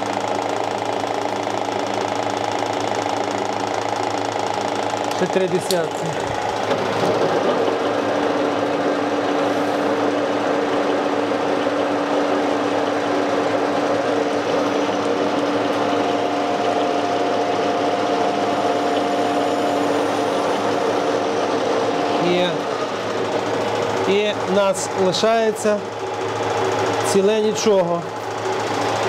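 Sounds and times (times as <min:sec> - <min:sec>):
high machine tone: 0:00.0 - 0:29.0
metal lathe running: 0:00.0 - 0:29.0.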